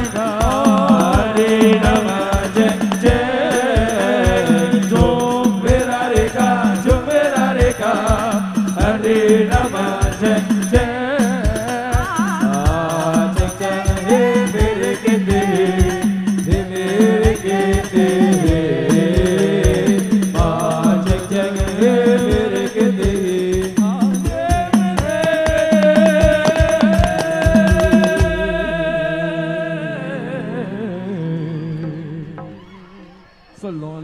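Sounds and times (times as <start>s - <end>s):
steady drum beat: 0.0s - 29.6s
instrumental backing: 0.0s - 30.5s
person singing: 0.0s - 34.0s.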